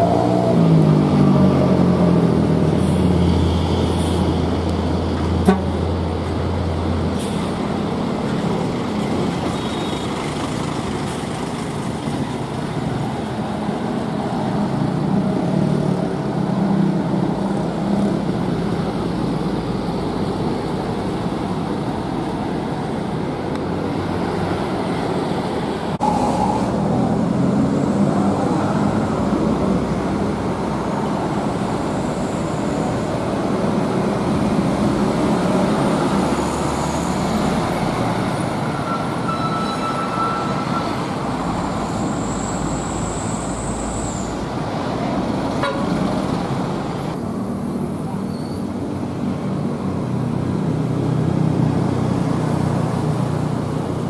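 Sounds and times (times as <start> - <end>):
bus diesel engines running: 0.0 - 54.0
traffic noise: 0.0 - 54.0.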